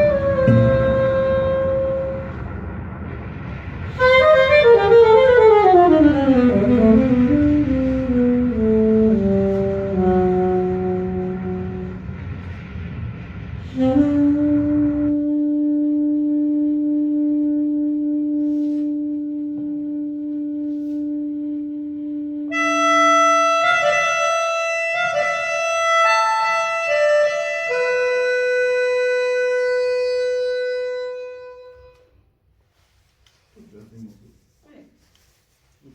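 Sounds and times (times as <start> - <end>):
recorded backing track: 0.0 - 32.6
alto saxophone long held notes: 0.0 - 33.0.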